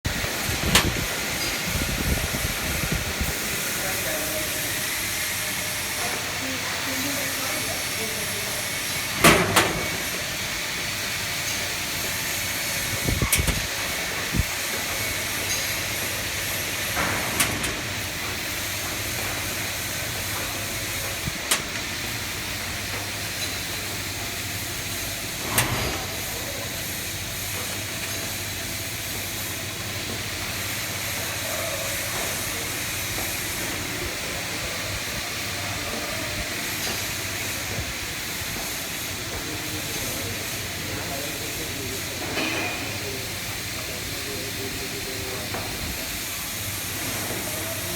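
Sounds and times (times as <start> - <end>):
laser cutter hissing: 0.1 - 47.9.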